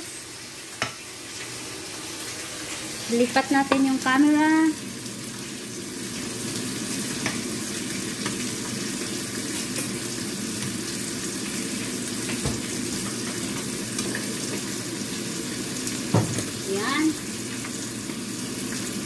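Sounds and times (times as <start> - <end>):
squid sizzling in oil: 0.0 - 19.0.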